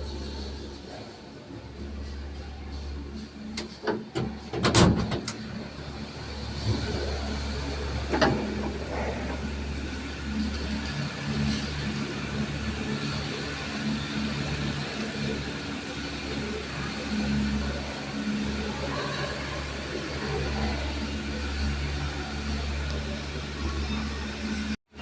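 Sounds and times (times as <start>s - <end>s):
low motor hum: 0.0s - 24.8s.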